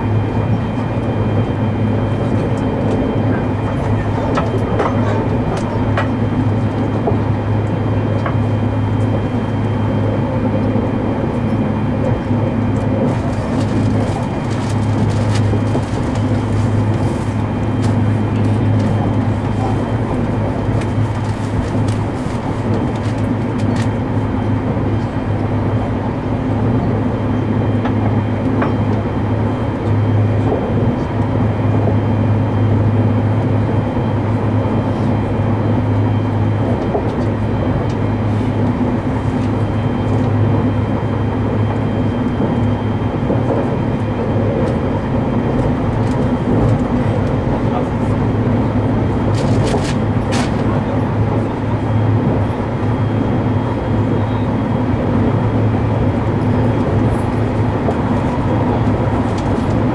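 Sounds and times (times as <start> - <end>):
train interior low hum: 0.0 - 59.9
train rushing running noise: 0.0 - 59.9.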